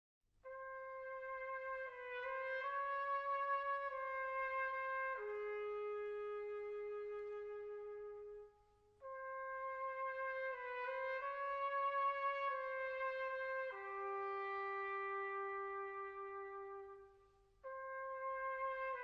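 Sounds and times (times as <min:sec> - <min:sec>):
trumpet playing slow melody: 0:00.4 - 0:19.0.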